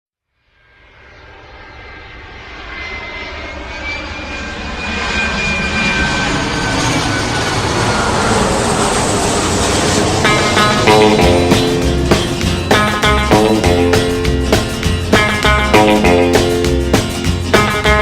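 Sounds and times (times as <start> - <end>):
jet engines whining: 0.8 - 18.0.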